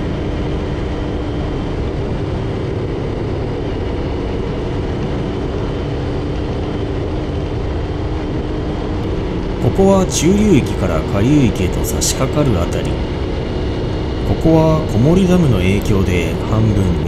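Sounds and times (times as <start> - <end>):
road and wind noise: 0.0 - 17.0
vehicle engine hum: 0.0 - 17.0.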